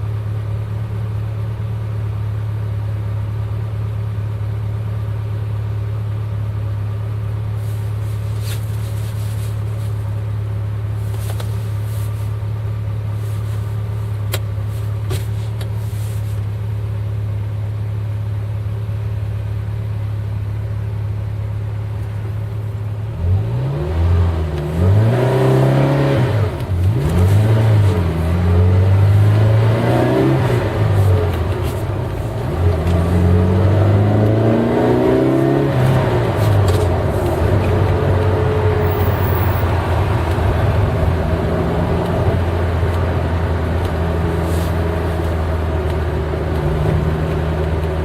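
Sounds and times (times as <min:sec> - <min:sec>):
engine idling and revving: 0:00.0 - 0:48.0.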